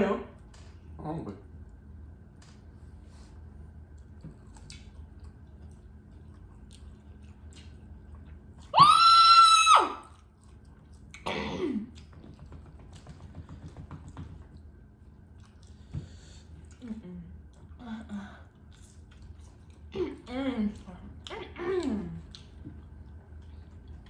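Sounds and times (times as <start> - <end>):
chewing crispy food: 1.6 - 24.0.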